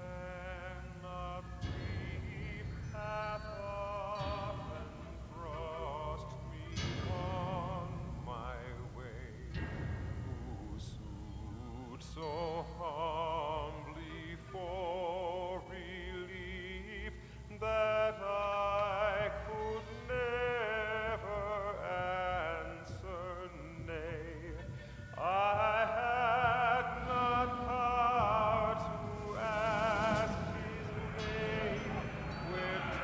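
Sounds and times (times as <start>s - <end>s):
operatic solo voice singing: 0.0s - 33.0s.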